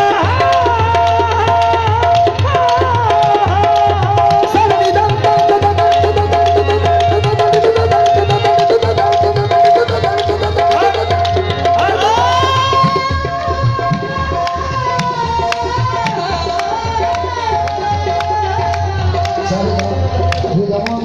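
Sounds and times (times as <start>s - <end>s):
fast tabla rhythm: 0.0s - 21.0s
harmonium melody: 0.0s - 21.0s.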